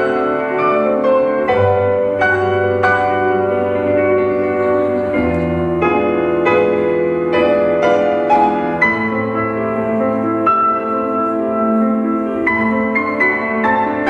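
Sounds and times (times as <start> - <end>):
piano instrumental music: 0.0 - 14.0.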